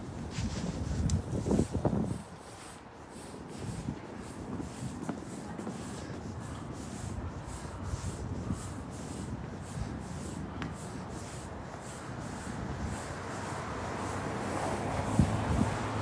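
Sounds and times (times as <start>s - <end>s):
footsteps scuffing on pavement: 0.0s - 13.2s
low rumble of street noise: 0.0s - 16.0s.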